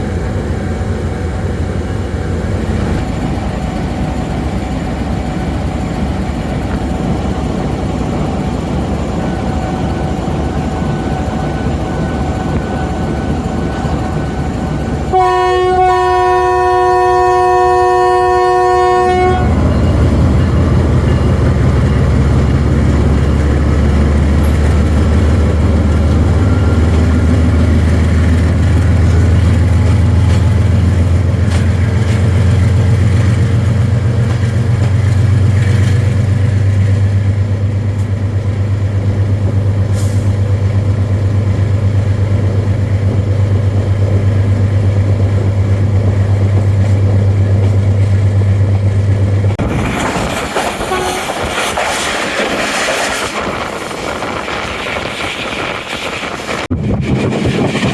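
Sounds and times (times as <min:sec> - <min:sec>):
locomotive engine deep drone: 0:00.0 - 0:50.0.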